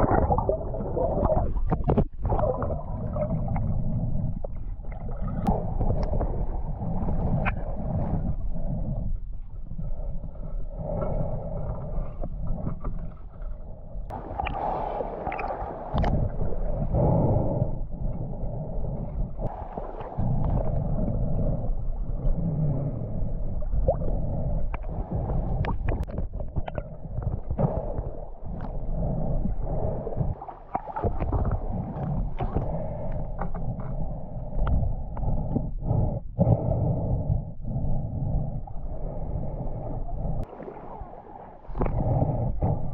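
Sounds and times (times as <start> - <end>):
muffled water gurgling: 0.0 - 42.9.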